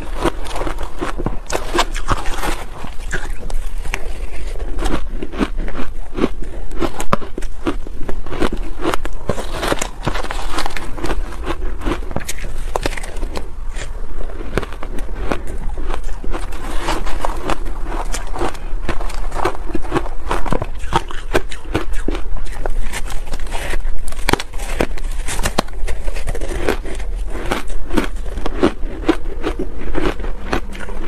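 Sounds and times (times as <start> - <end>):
chewing crunchy shaved ice: 0.0 - 31.0.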